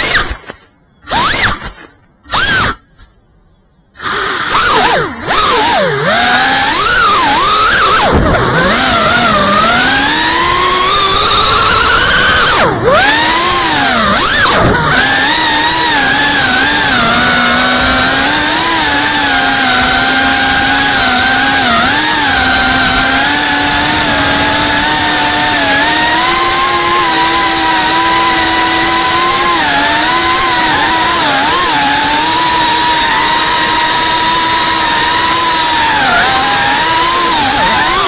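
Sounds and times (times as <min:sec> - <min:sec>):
drone propellers buzzing: 0:04.0 - 0:38.0.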